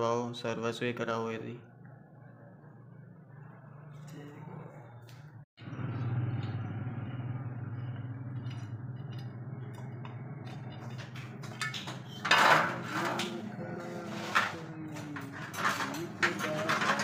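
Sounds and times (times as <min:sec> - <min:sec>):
engine humming: 0:02.0 - 0:16.8.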